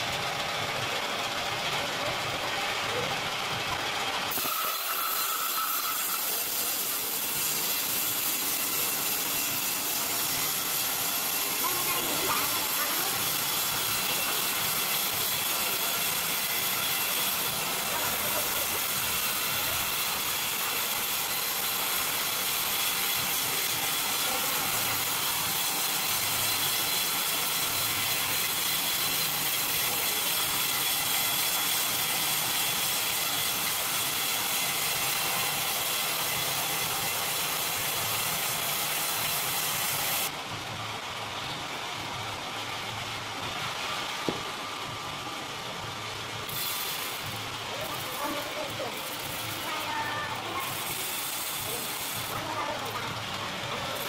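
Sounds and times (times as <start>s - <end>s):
band sawmill cutting log: 0.0s - 40.4s, 43.5s - 54.0s.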